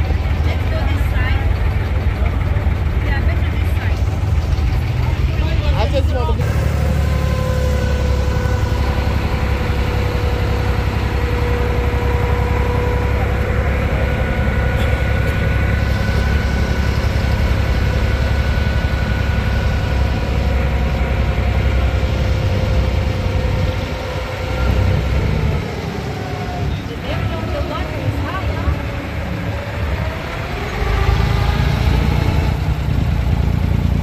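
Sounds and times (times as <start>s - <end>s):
steady whine: 0.0s - 33.9s
vehicle rumble from inside: 0.0s - 34.0s.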